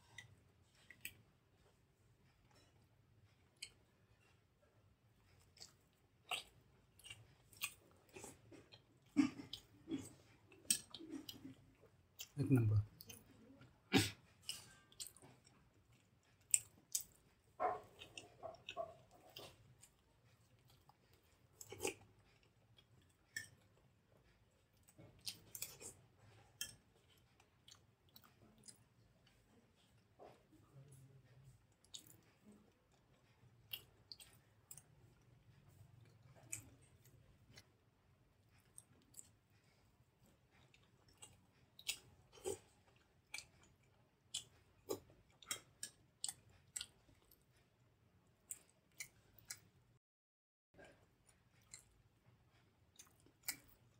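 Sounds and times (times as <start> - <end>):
person chewing soft food: 0.0 - 50.0, 50.8 - 53.9.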